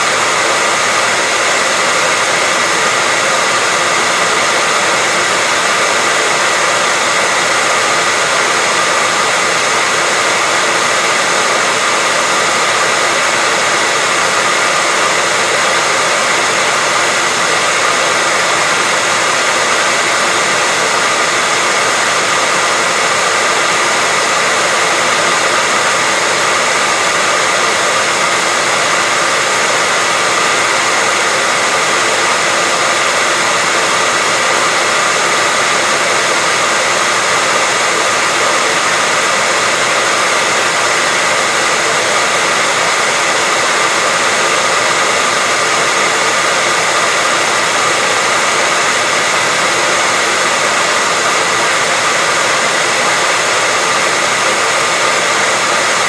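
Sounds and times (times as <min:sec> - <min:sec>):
hairdryer running: 0:00.0 - 0:56.0.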